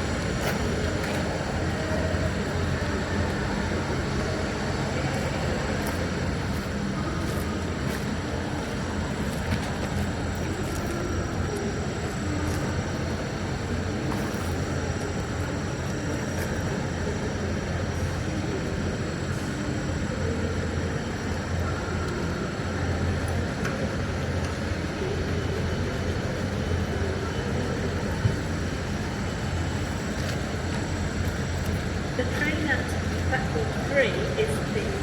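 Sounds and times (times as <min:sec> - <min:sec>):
electric train rumbling: 0:00.0 - 0:35.0
faint high whine: 0:00.0 - 0:35.0.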